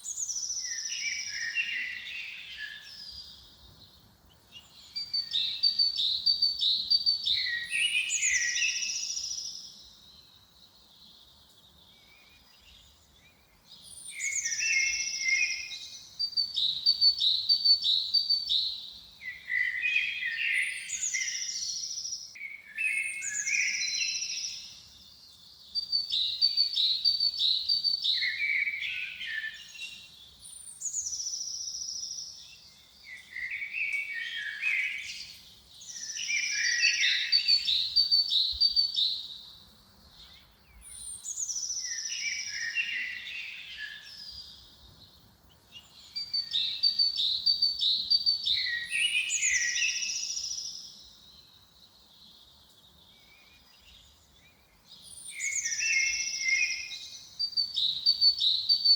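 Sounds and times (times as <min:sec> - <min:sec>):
songbird whistles and trills: 0:00.0 - 0:03.5, 0:04.5 - 0:10.0, 0:11.9 - 0:39.4, 0:40.2 - 0:44.8, 0:45.8 - 0:51.4, 0:53.1 - 0:58.9.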